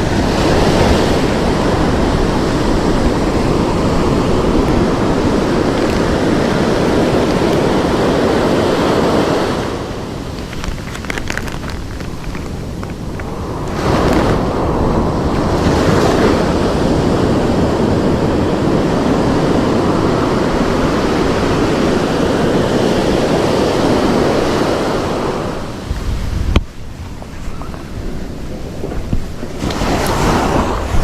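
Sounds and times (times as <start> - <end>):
ocean surf breaking: 0.0 - 31.0
wind on microphone: 0.0 - 31.0.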